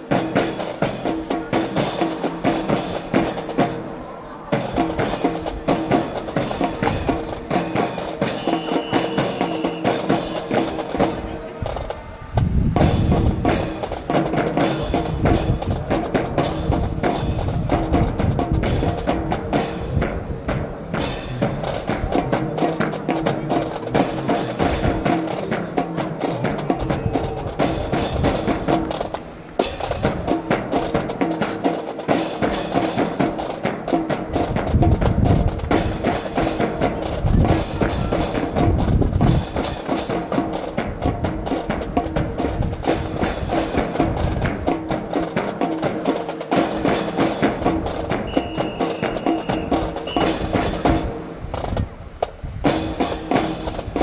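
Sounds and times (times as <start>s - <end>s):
music with drums and percussion: 0.0s - 54.0s.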